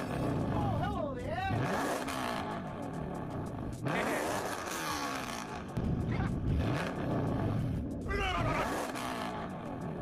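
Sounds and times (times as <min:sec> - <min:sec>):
cartoon car engines revving: 0:00.0 - 0:10.0.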